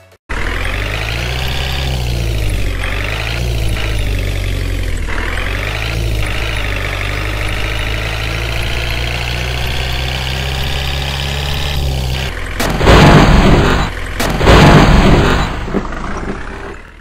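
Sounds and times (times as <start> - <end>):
truck engine idling: 0.0 - 10.6, 11.5 - 17.0.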